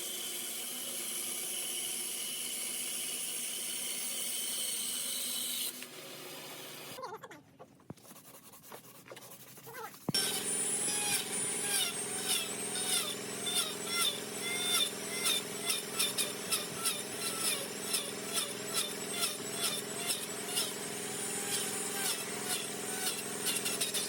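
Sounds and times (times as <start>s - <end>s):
power tool working wood: 0.0s - 7.0s, 10.1s - 24.0s.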